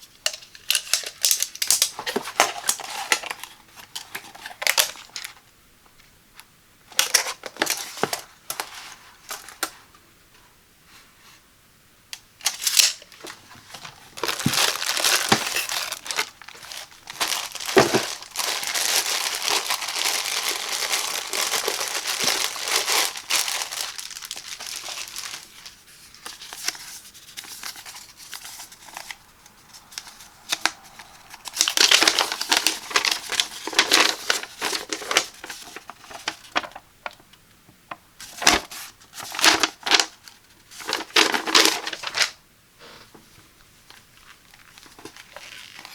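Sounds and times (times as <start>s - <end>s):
plastic packaging crinkling: 0.2s - 5.4s, 6.9s - 9.7s, 12.4s - 37.2s, 38.2s - 42.4s, 43.9s - 45.9s.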